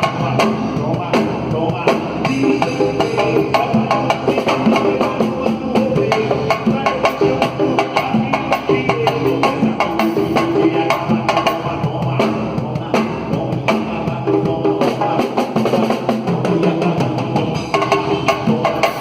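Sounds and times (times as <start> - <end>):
samba music with drums: 0.0 - 19.0.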